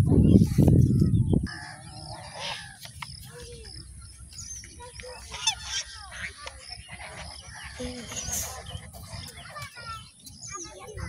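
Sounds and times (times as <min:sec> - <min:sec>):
bird calls: 0:00.2 - 0:11.0
high bird chirps: 0:00.2 - 0:11.0.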